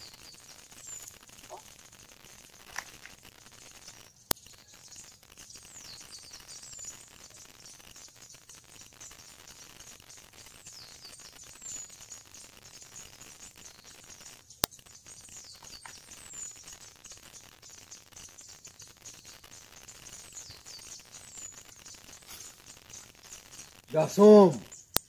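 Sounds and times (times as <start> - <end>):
birds calling: 0.0 - 25.0
steady high hiss: 0.0 - 25.0.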